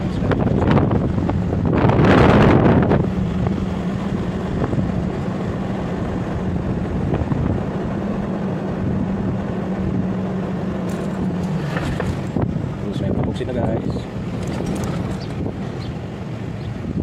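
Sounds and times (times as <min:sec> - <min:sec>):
car engine and road noise: 0:00.0 - 0:17.0
wind buffeting microphone: 0:00.0 - 0:17.0.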